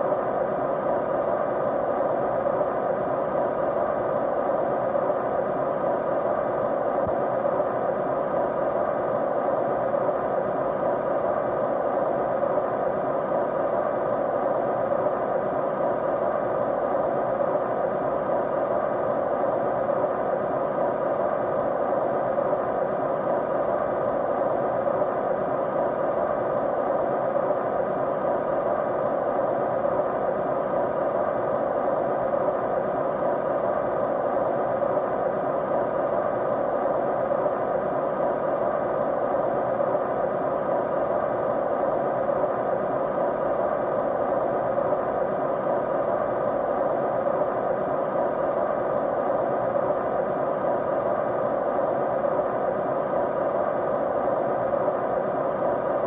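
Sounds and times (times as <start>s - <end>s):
white noise: 0.0s - 56.0s.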